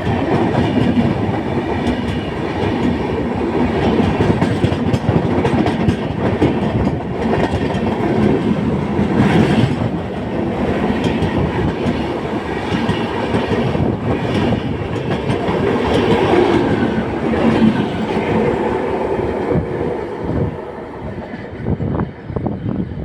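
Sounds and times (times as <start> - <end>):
train coaches rolling on rails: 0.0 - 23.0.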